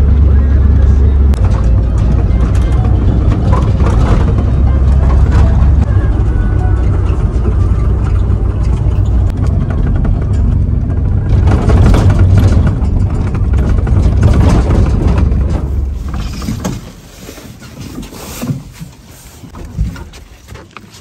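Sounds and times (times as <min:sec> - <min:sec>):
wind and road noise rushing: 0:00.0 - 0:20.2
engine and road rumble: 0:00.0 - 0:21.0
shuffling and knocks: 0:01.3 - 0:21.0.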